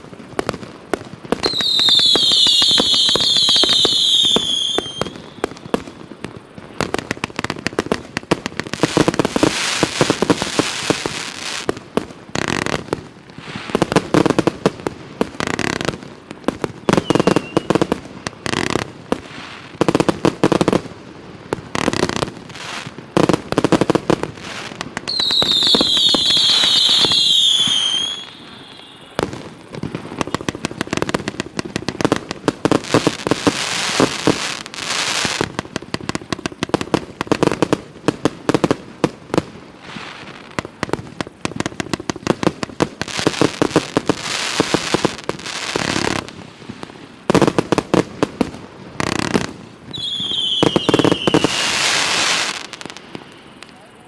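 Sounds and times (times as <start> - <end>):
fireworks shots and bursts: 0.0 - 54.0
high firework whistles: 0.1 - 11.8, 12.4 - 20.9, 21.5 - 38.2, 39.8 - 54.0.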